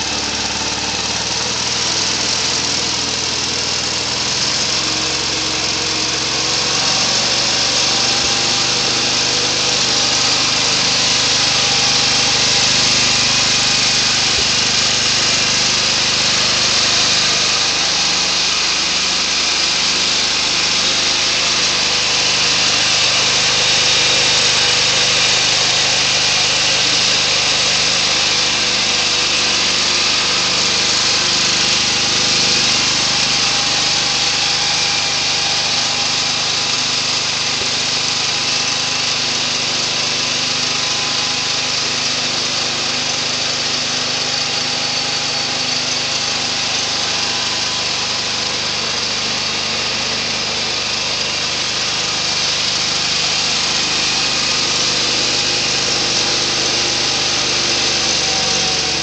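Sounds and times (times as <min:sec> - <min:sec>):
garden tractor engine running: 0:00.0 - 0:59.0.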